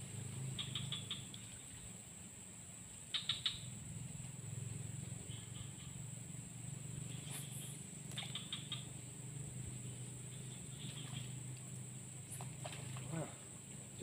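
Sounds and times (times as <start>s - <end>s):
rapid ticking chirps: 0.0s - 1.7s, 2.9s - 14.0s
high-pitched insect drone: 0.0s - 14.0s.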